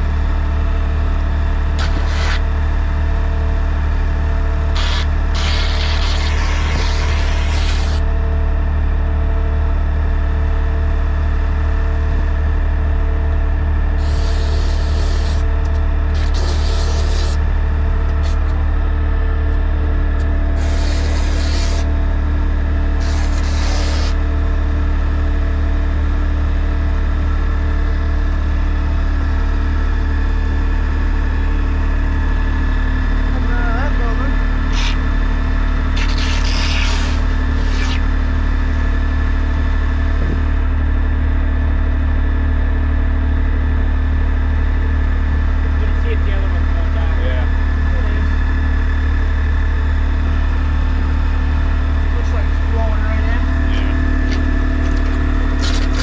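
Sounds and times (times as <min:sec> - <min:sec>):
truck engine and vacuum pump: 0:00.0 - 0:56.0.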